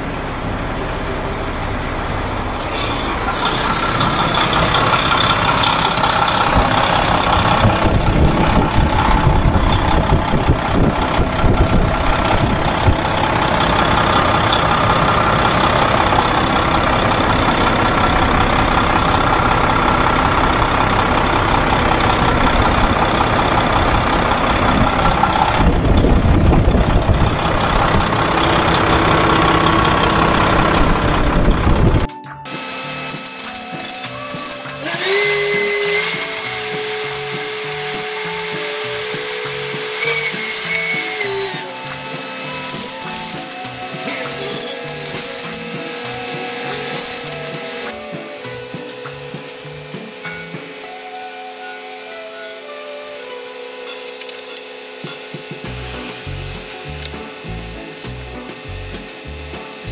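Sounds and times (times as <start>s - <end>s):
diesel engine idling: 0.0s - 51.6s, 54.1s - 59.9s
truck air system building pressure: 0.0s - 59.9s.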